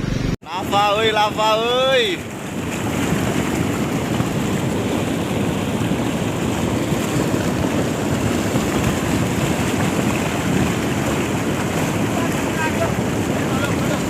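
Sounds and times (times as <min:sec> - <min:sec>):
rushing debris flow: 0:00.5 - 0:14.0.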